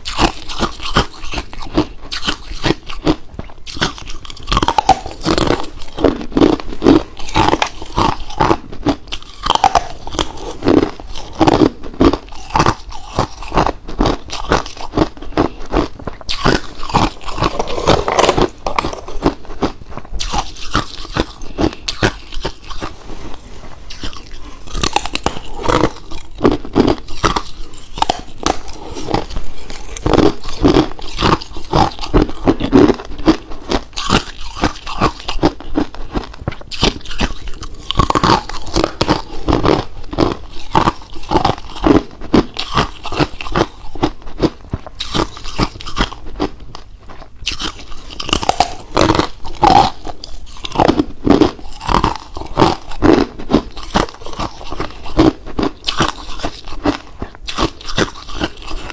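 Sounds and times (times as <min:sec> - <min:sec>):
ice being chewed: 0:00.0 - 0:58.9.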